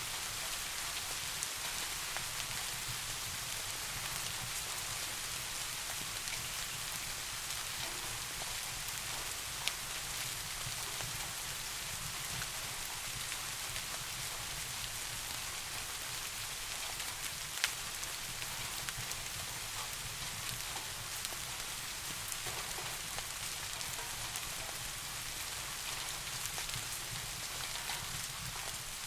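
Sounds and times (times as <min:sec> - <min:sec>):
soft rain hiss: 0:00.0 - 0:29.0
raindrop ticks: 0:00.1 - 0:29.0.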